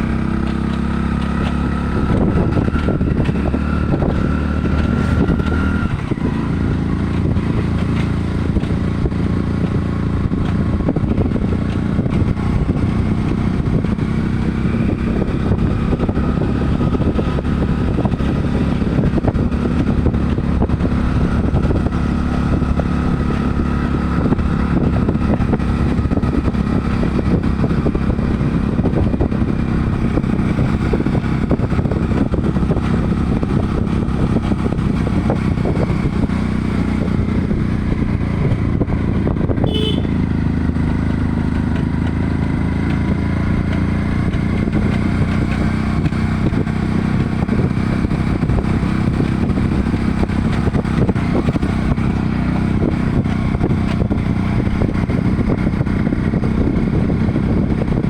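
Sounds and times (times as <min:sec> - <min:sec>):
motor engine running: 0:00.0 - 0:58.0.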